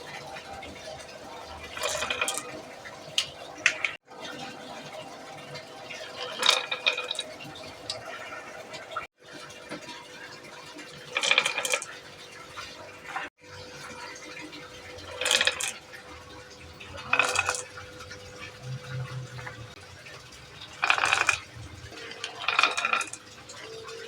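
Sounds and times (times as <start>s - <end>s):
marbles clattering down marble run: 0.1s - 4.0s, 4.6s - 9.0s, 10.7s - 12.2s, 13.5s - 19.9s, 20.5s - 24.0s.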